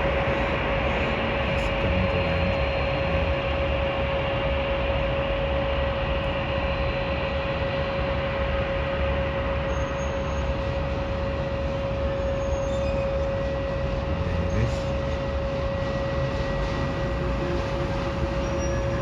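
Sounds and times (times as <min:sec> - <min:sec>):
airport background roar: 0:00.0 - 0:19.0
constant mid-pitched whine: 0:00.0 - 0:19.0.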